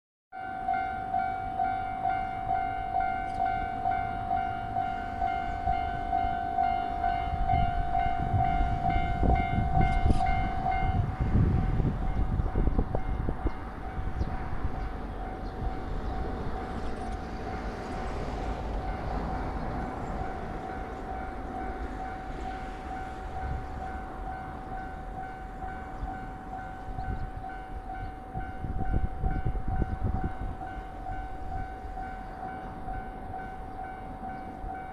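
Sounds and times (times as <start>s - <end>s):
train wheels rumbling on rails: 1.5s - 34.9s.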